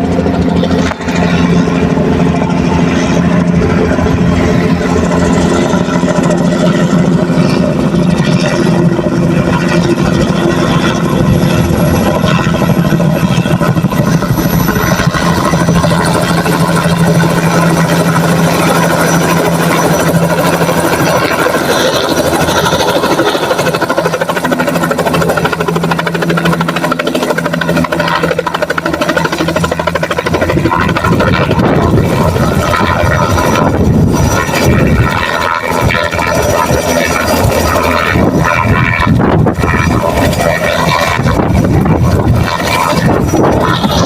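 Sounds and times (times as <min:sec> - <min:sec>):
helicopter rotor blades beating: 0:00.0 - 0:44.0
helicopter turbine whine: 0:00.0 - 0:44.0.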